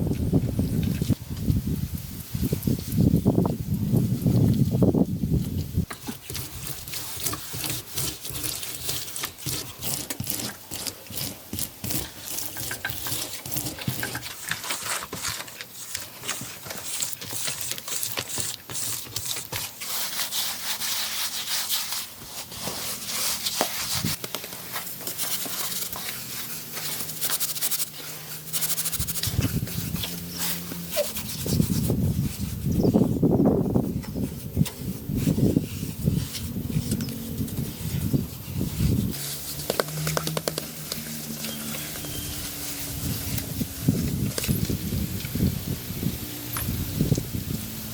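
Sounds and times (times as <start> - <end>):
rapid scraping and rubbing strokes: 5.7 - 47.7.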